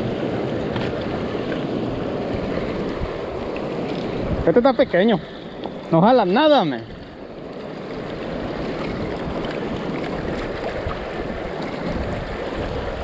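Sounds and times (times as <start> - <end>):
wind on microphone: 0.0 - 5.9, 7.9 - 13.0
fast-flowing river: 0.0 - 13.0.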